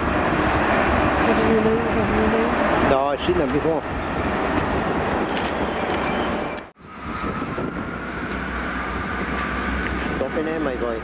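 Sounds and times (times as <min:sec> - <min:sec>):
diesel train rumbling past: 0:00.0 - 0:11.0.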